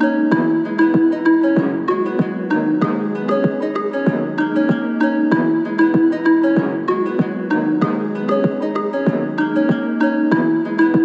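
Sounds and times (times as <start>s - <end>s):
instrumental chill-beat music: 0.0s - 11.0s.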